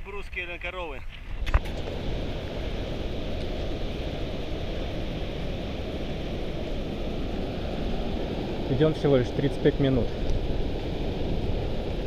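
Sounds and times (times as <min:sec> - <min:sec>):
wind rumbling on microphone: 0:01.0 - 0:12.0.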